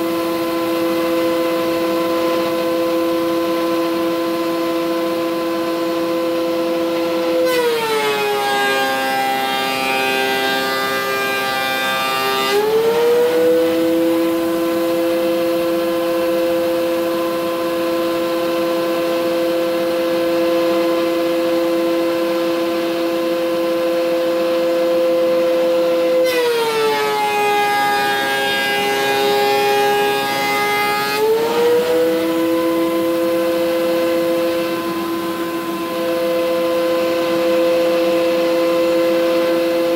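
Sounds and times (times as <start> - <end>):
planer cutting board: 0.0 - 39.9
thickness planer motor hum: 0.0 - 39.9.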